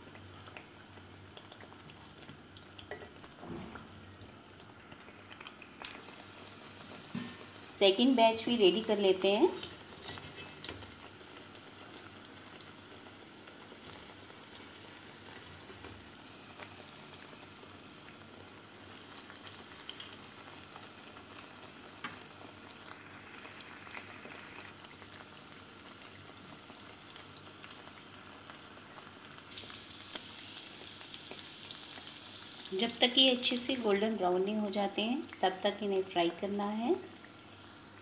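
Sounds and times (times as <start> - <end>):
oil sizzling in a pan: 0.0 - 38.0.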